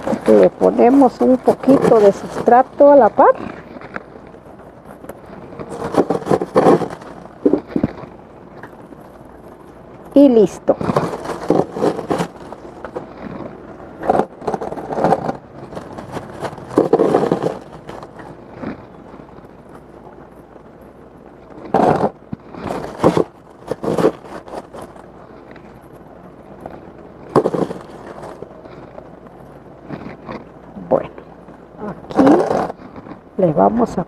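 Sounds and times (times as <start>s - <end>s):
hands scraping and rustling soil: 0.0s - 20.3s, 21.3s - 31.0s, 32.1s - 34.0s.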